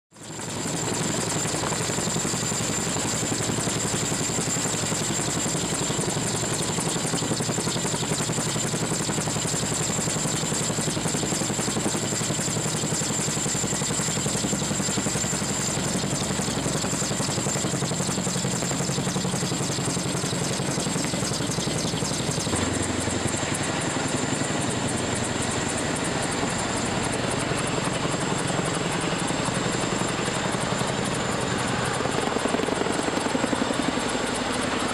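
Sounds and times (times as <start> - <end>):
helicopter rotor chop with whine: 0.1 - 34.9.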